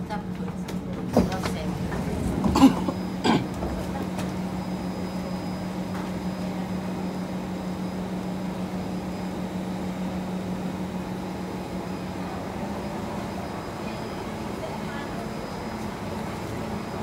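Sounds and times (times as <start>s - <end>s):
train car humming: 0.0s - 17.0s.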